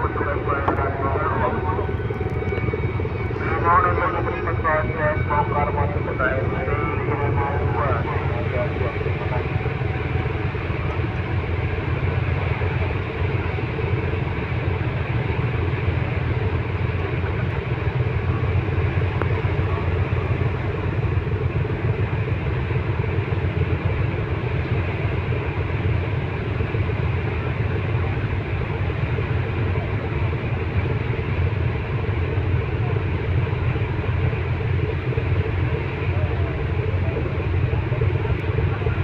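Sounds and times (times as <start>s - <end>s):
ferry engines rumbling: 0.0s - 39.0s.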